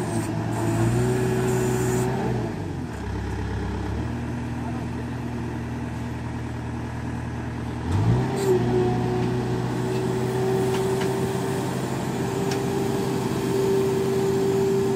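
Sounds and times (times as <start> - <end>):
diesel engine running under load: 0.0 - 14.9.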